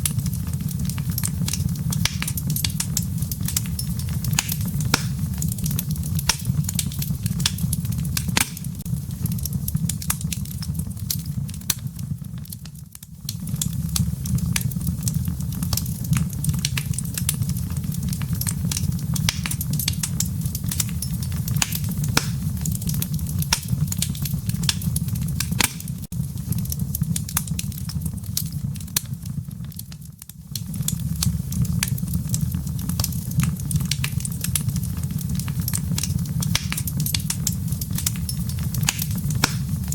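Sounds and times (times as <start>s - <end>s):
wood logs crackling in fireplace: 0.0s - 39.9s.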